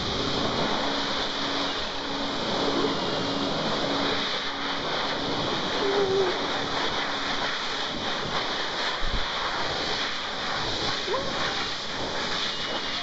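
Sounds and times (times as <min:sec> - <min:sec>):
hairdryer blowing: 0:00.0 - 0:13.0.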